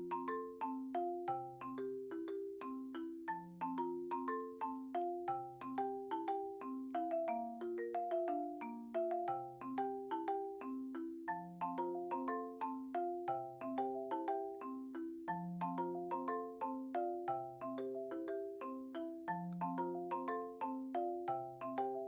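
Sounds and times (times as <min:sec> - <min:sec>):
bouncy marimba tune: 0:00.0 - 0:22.0.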